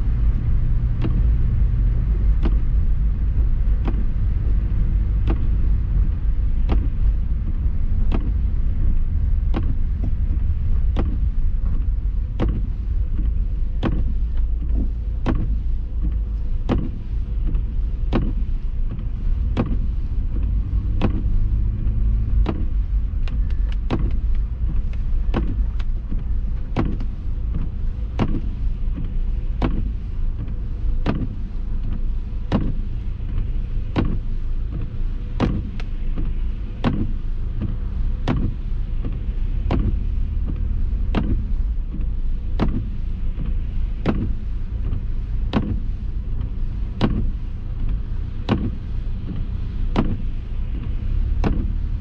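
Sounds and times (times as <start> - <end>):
car cabin road rumble: 0.0 - 52.0
windshield wipers knocking: 0.1 - 52.0.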